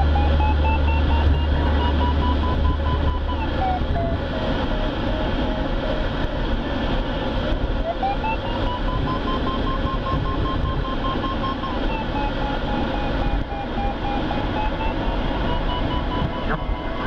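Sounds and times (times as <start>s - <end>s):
variometer beeping: 0.0s - 6.4s, 7.8s - 17.0s
air rushing around cockpit: 0.0s - 17.0s.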